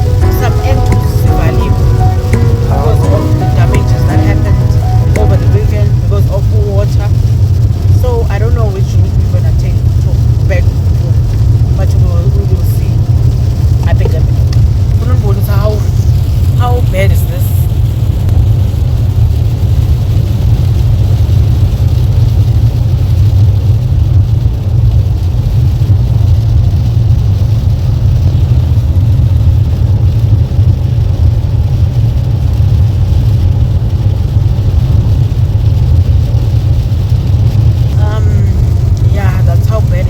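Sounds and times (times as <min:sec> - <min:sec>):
pouring rain on car: 0:00.0 - 0:40.0.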